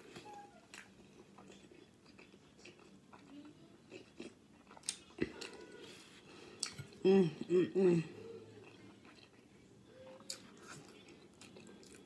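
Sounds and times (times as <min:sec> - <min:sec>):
person chewing food: 0:00.0 - 0:07.5, 0:08.3 - 0:12.0.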